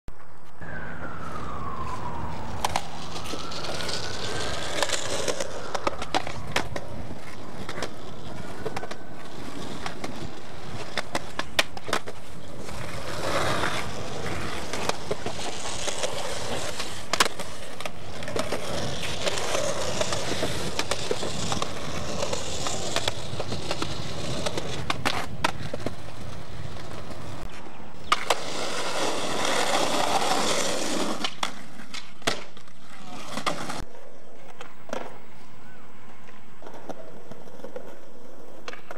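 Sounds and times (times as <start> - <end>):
skateboard wheels rolling on concrete: 0.1 - 38.9
skateboard clacks: 2.6 - 35.4, 36.0 - 38.9.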